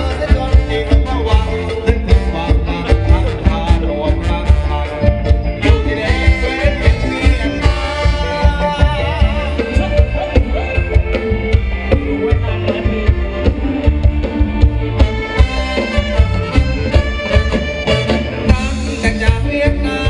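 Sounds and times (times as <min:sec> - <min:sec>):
driving drum beat: 0:00.0 - 0:20.0
live dance band over a pa: 0:00.0 - 0:20.0.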